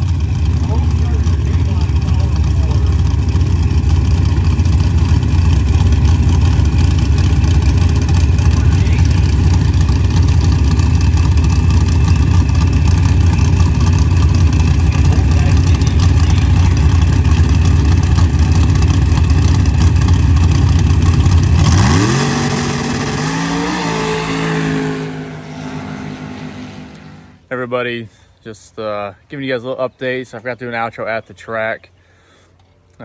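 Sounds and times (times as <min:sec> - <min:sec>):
race engines running hard: 0:00.0 - 0:27.4
single engine revving: 0:00.0 - 0:27.4.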